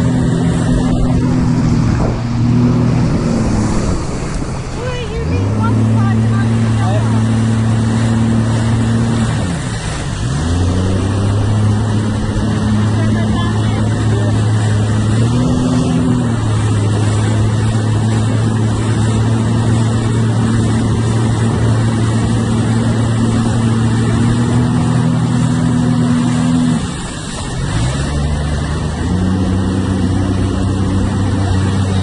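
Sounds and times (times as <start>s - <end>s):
wind noise: 0.0s - 27.7s
jet ski engine: 0.0s - 32.0s
rushing water: 0.0s - 32.0s.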